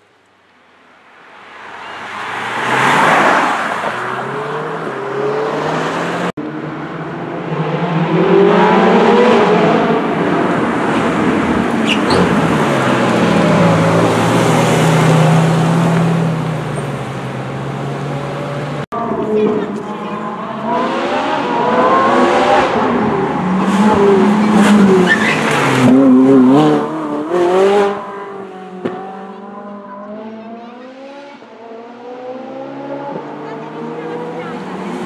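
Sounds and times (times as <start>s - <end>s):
sports car engines accelerating: 2.2s - 35.0s.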